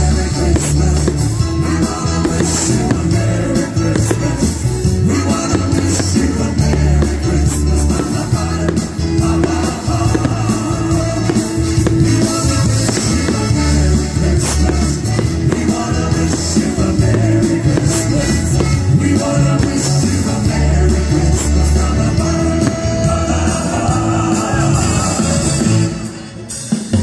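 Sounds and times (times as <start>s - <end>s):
bass line: 0.0s - 26.1s
drums: 0.0s - 27.0s
live band with singing: 0.0s - 27.0s.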